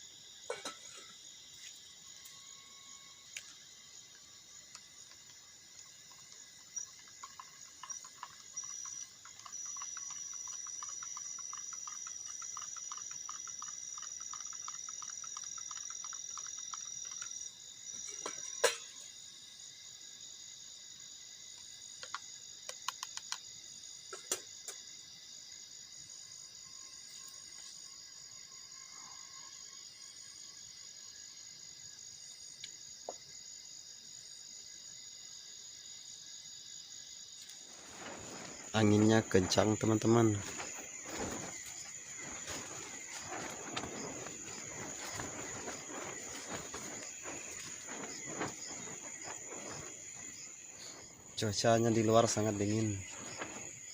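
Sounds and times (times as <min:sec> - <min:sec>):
crickets and insects trilling: 0:00.0 - 0:53.9
high continuous insect trill: 0:00.0 - 0:53.9
pulsing insect chirp: 0:00.0 - 0:53.9.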